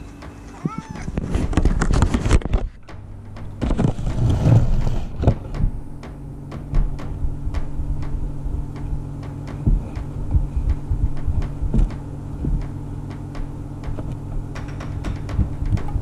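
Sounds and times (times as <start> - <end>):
low thumps: 0.0 - 16.0
steady low hum: 0.0 - 16.0.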